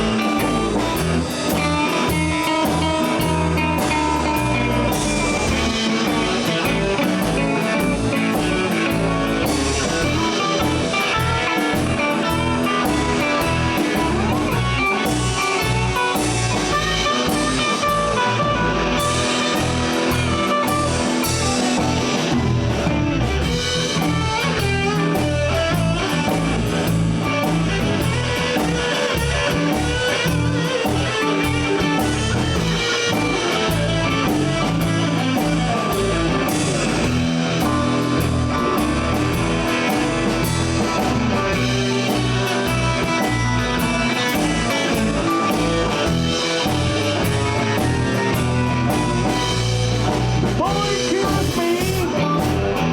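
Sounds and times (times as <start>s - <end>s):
bass: 0.0s - 52.9s
drum kit beat: 0.0s - 52.9s
electric guitar: 0.0s - 52.9s.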